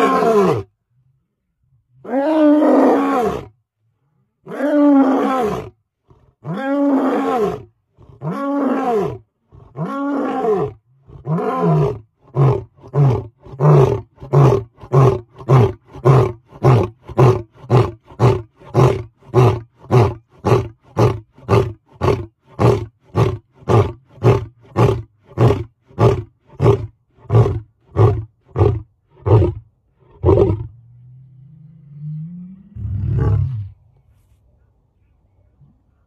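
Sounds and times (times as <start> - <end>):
lion roaring: 4.5 - 33.8.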